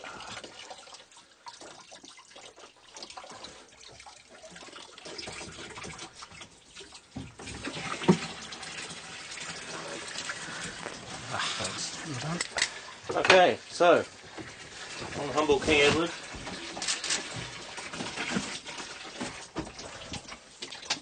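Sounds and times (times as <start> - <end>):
water gushing like open tap: 0.0 - 21.0.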